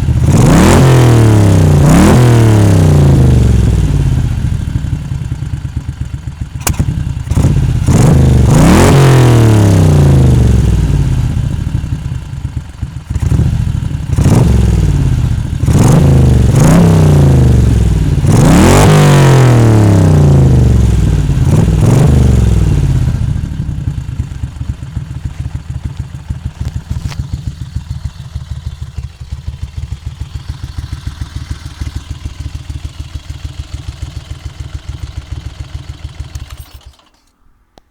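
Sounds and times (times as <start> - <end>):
motorcycle engine revving and idling: 0.0 - 37.4.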